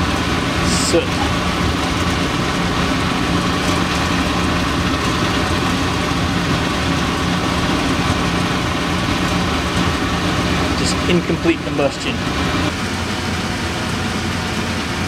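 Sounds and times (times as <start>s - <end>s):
motor running drone: 0.0s - 15.0s.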